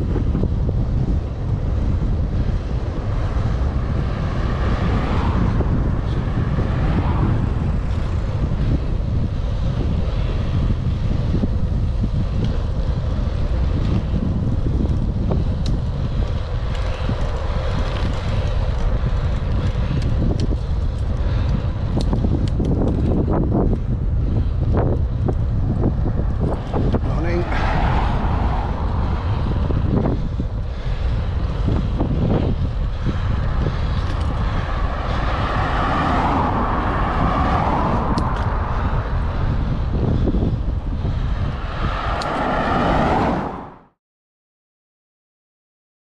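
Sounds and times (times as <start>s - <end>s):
wind buffeting a microphone: 0.0s - 44.0s.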